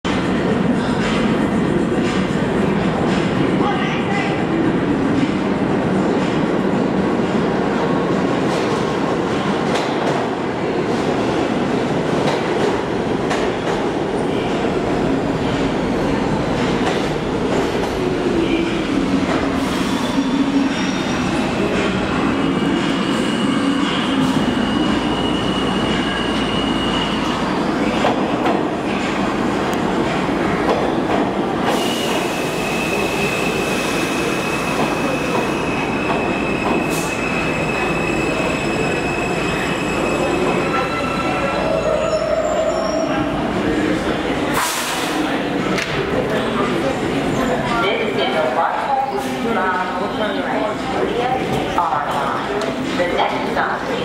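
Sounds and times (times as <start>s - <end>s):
train wheels rumbling on rail: 0.1s - 54.0s.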